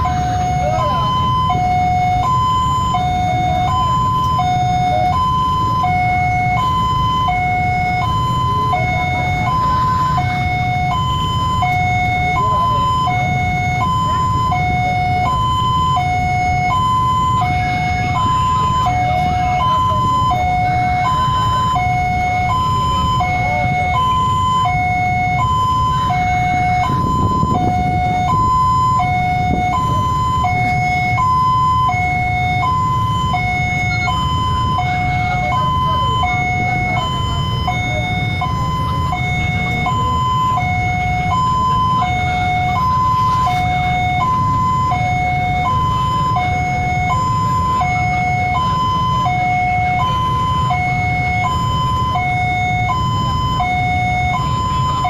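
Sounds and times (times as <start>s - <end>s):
level crossing two-tone alarm: 0.0s - 55.0s.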